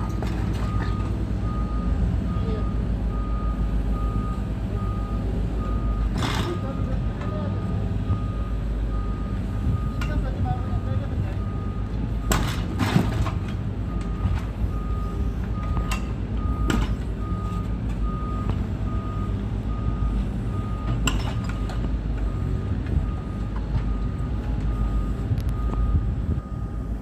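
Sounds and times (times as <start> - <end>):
excavator diesel engine running: 0.0 - 27.0
reversing alarm beeping: 0.0 - 27.0.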